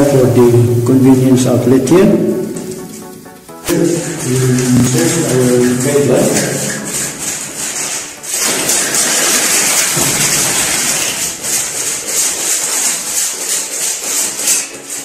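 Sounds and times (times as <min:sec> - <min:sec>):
steel wire scraping through conduit: 0:00.0 - 0:15.0.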